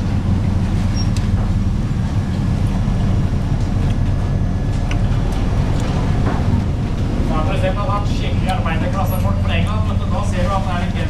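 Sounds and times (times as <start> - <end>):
ship engines rumbling: 0.0 - 11.0.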